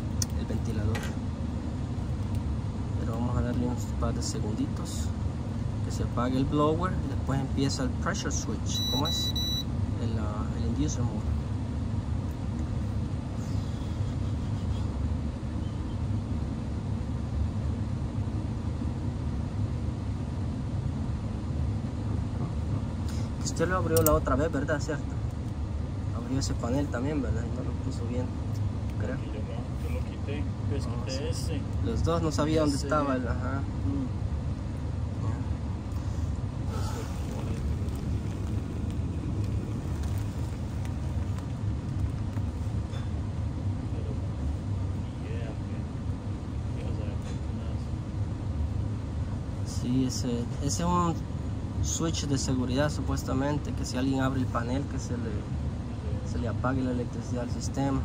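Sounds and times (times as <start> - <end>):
furnace blower fan running: 0.0 - 58.0.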